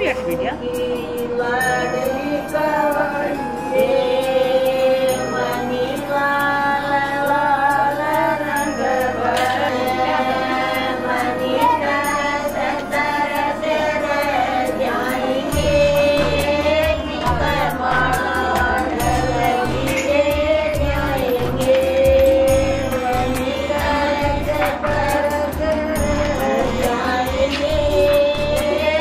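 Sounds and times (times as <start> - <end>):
women singing: 0.0 - 29.0.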